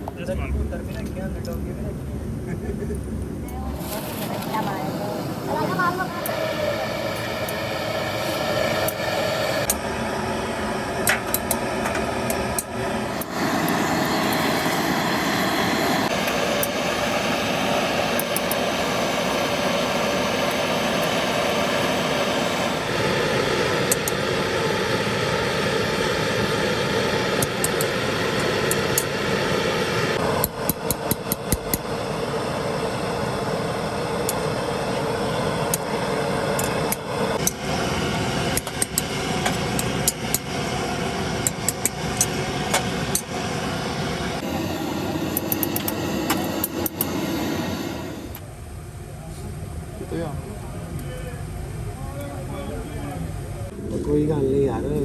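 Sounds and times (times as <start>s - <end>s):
machine humming: 2.3s - 55.0s.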